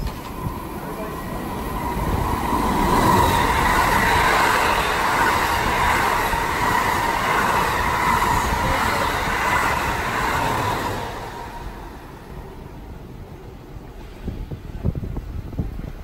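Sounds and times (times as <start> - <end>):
wheels rushing on rail: 0.0 - 16.0.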